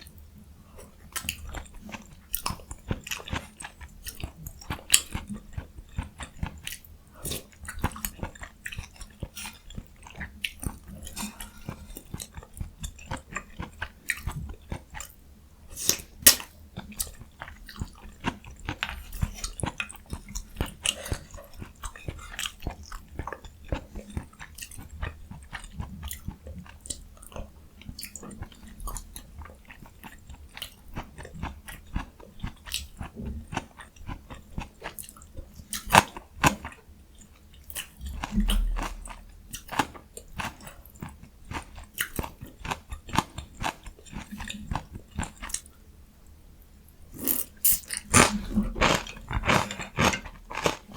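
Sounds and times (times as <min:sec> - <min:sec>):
chewing crunchy food: 0:00.1 - 0:45.9, 0:46.6 - 0:50.9.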